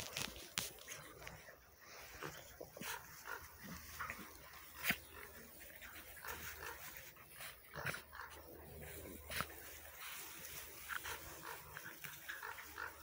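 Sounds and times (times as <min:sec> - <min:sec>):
puppies yipping and barking: 0:01.9 - 0:13.0.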